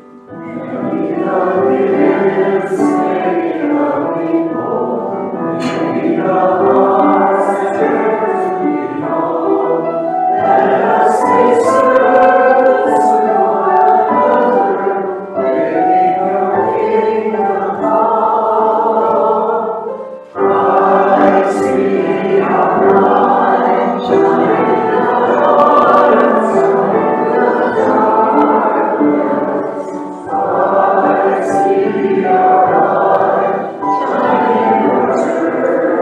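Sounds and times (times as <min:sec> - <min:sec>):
group singing a hymn: 0:00.0 - 0:36.0.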